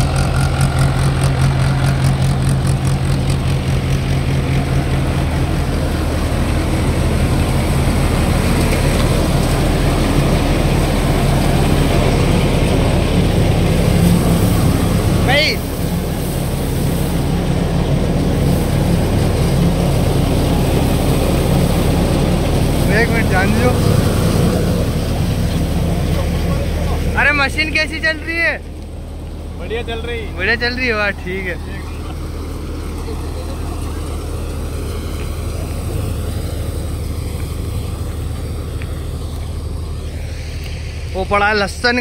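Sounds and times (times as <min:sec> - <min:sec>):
threshing machine running: 0:00.0 - 0:42.0
tractor engine droning: 0:00.0 - 0:42.0.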